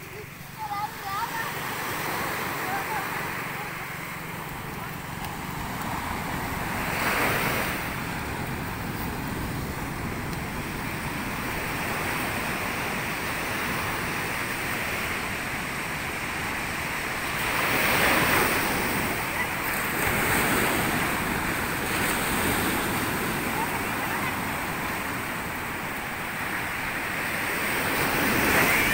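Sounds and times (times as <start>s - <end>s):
ocean surf breaking on beach: 0.0s - 28.9s
wind rumbling on microphone: 4.2s - 28.9s.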